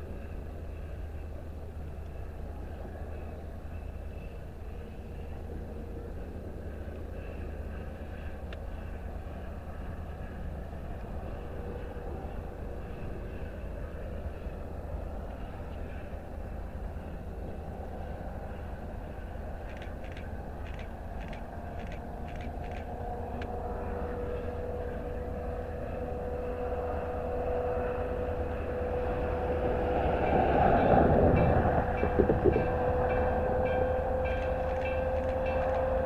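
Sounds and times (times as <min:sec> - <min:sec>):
low rumble of moving vehicle: 0:00.0 - 0:36.0.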